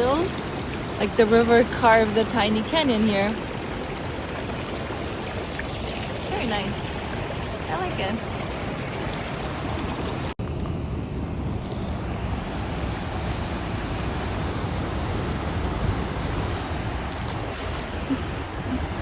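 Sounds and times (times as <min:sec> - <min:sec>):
waterfall roaring: 0:00.0 - 0:10.7, 0:11.6 - 0:19.0.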